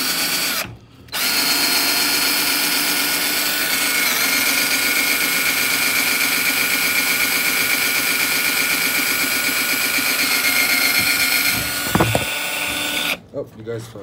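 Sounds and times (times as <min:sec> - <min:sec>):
cordless drill whining: 0:00.0 - 0:13.2.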